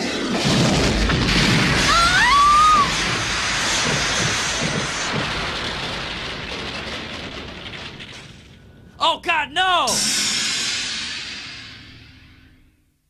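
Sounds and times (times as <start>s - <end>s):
loud rushing hiss: 1.0s - 9.0s, 9.8s - 12.4s.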